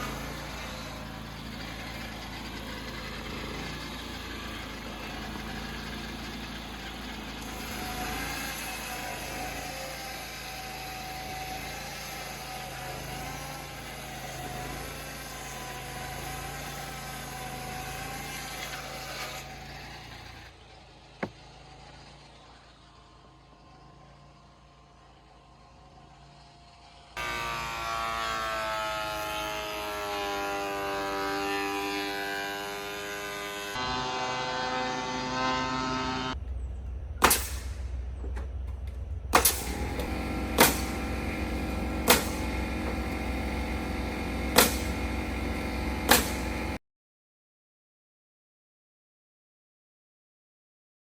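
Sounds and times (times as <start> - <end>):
engine running: 0.0 - 46.8.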